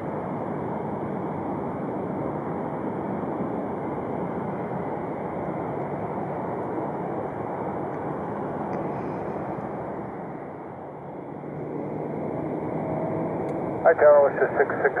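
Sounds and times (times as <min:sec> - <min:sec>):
jet airliner taking off: 0:00.0 - 0:15.0.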